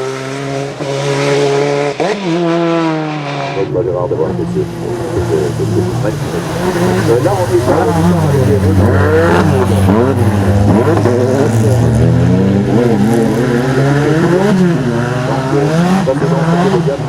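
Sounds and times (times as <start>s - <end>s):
racing car engine revving: 0.0s - 17.0s.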